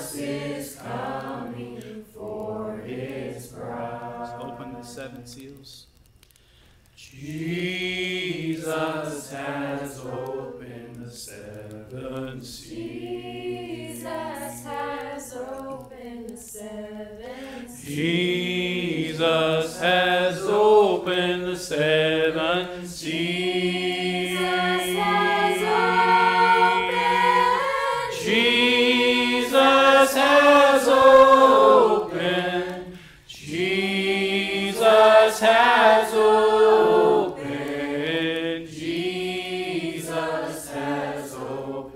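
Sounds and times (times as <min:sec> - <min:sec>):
group singing without instruments: 0:00.0 - 0:05.8, 0:07.0 - 0:41.9.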